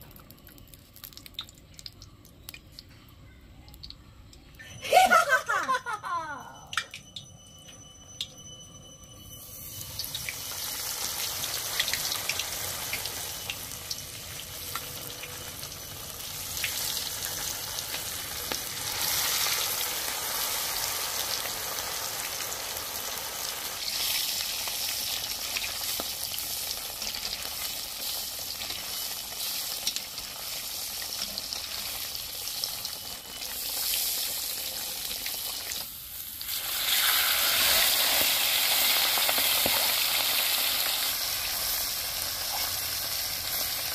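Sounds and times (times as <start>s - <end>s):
meat sizzling in hot oil: 0.0s - 1.9s, 9.3s - 43.9s.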